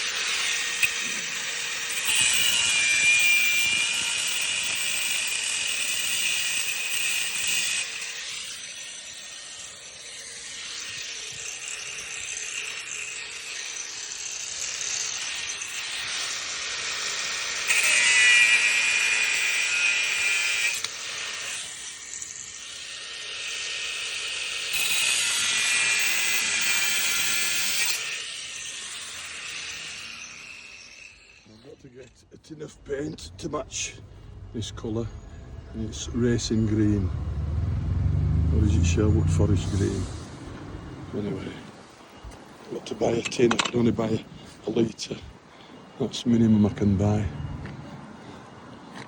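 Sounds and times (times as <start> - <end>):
power tool cutting steel: 0.0 - 31.6, 32.5 - 41.4.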